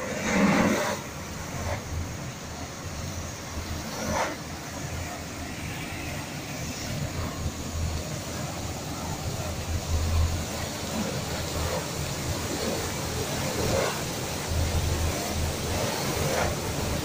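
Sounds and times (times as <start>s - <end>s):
water spray hissing: 0.0s - 17.0s.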